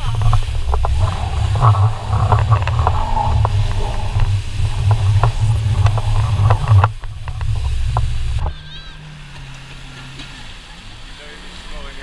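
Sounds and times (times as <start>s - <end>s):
wind buffeting microphone: 0.0s - 11.2s
jet ski engine: 0.0s - 12.0s
water spray and slaps: 0.0s - 12.0s.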